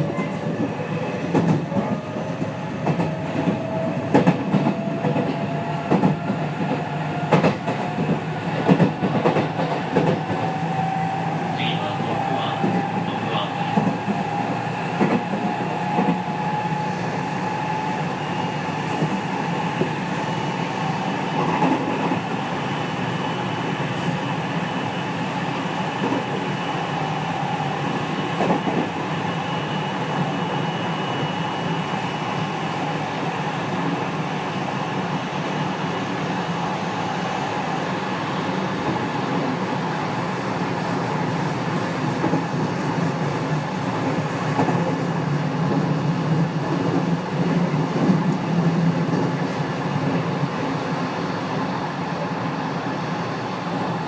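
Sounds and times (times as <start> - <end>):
electric train rolling: 0.0 - 54.0.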